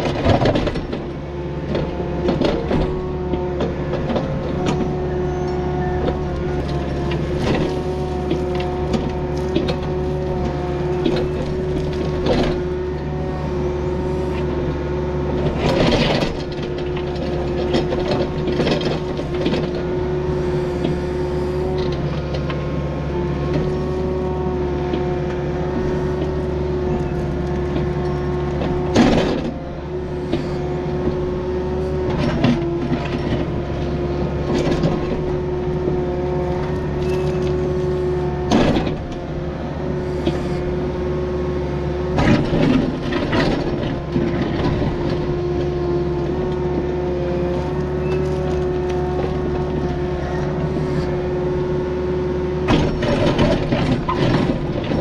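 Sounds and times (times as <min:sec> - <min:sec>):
excavator bucket clanking: 0:00.0 - 0:22.7, 0:23.3 - 0:40.9, 0:42.0 - 0:51.6, 0:52.6 - 0:55.0
excavator diesel engine running: 0:00.0 - 0:55.0.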